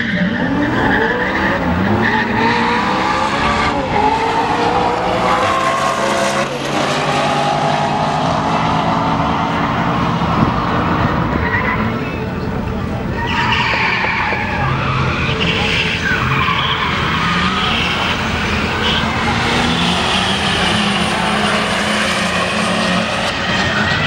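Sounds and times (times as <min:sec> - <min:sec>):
cars accelerating hard: 0:00.0 - 0:24.0.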